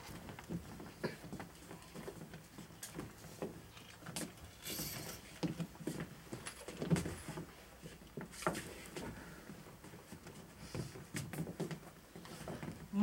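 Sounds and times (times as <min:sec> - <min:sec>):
handbags rustling and clicking: 0:00.0 - 0:13.0.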